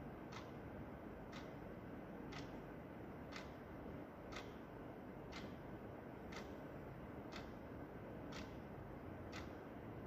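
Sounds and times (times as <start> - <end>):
wall clock ticking: 0.0 - 10.0.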